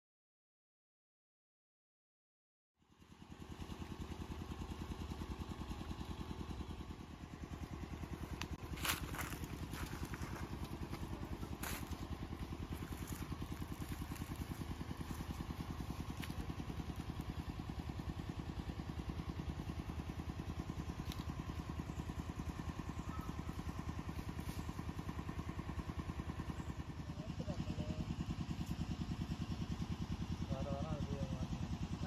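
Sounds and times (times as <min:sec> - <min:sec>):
engine running steadily: 0:02.8 - 0:32.0.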